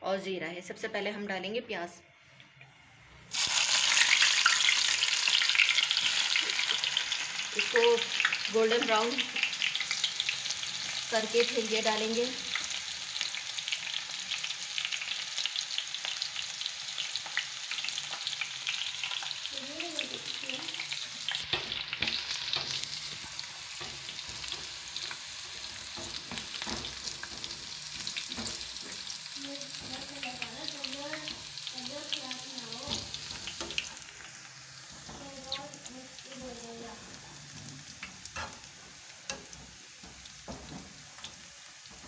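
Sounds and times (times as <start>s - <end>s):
onion sizzling in hot oil: 3.2s - 42.0s.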